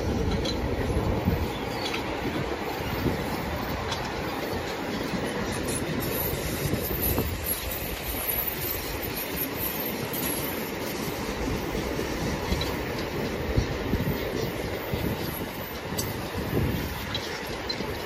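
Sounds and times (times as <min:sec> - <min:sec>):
train wheels rolling on rail: 0:00.0 - 0:18.0.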